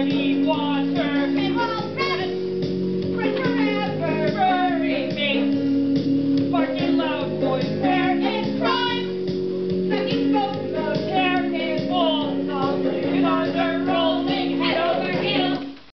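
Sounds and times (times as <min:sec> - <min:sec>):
steady held chords: 0:00.0 - 0:15.9.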